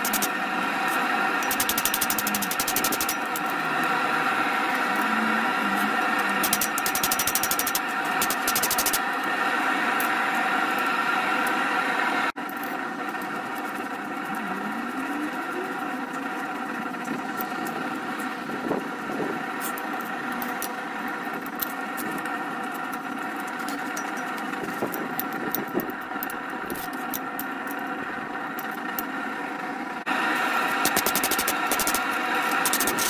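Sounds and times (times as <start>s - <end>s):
motor hum: 0.0s - 33.0s.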